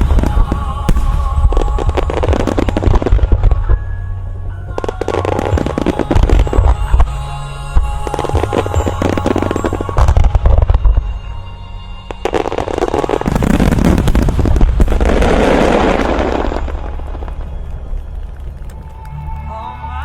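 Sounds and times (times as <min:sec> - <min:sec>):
fireworks crackling and bursting: 0:00.0 - 0:04.1, 0:04.7 - 0:11.4, 0:12.0 - 0:19.1
low rumble: 0:00.0 - 0:19.9
music playing: 0:00.0 - 0:20.0.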